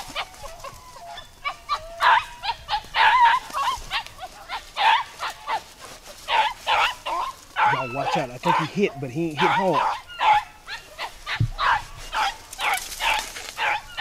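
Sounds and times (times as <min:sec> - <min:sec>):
pack of dogs barking: 0:00.0 - 0:14.0.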